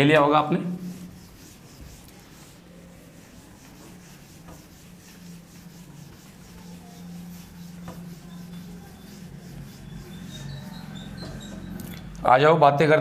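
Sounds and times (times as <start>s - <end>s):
duster rubbing a whiteboard: 0.5s - 11.8s.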